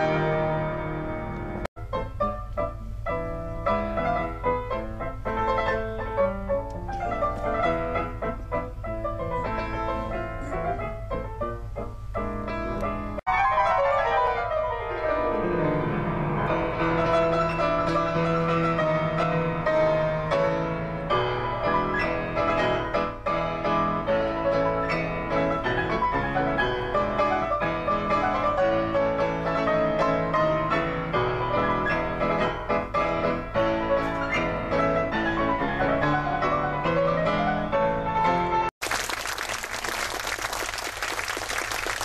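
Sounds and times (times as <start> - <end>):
solo piano classical piece: 0.0 - 38.7.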